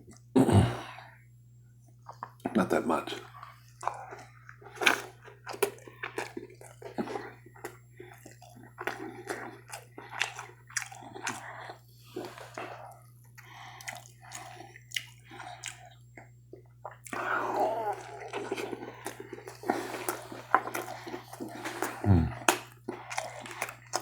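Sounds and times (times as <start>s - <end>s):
chewing food: 1.8s - 24.0s.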